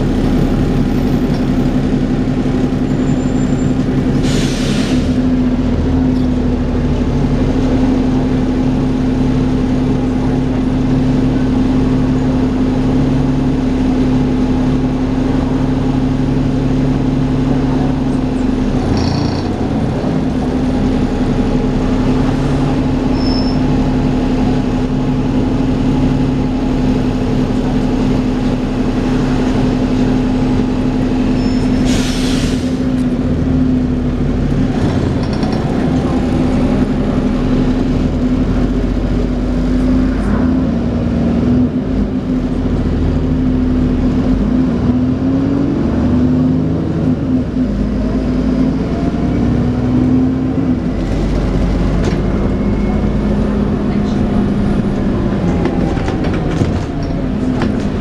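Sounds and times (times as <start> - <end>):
bus engine with loud whine: 0.0 - 58.0.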